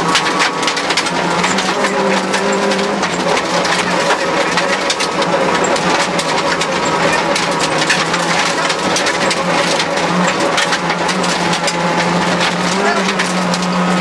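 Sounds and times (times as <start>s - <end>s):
rally car engine running hard: 0.0s - 14.0s.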